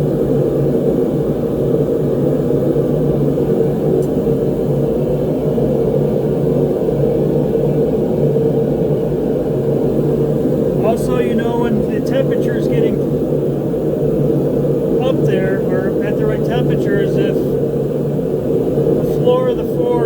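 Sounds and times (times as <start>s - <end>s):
gas burner rushing hum: 0.0s - 20.0s.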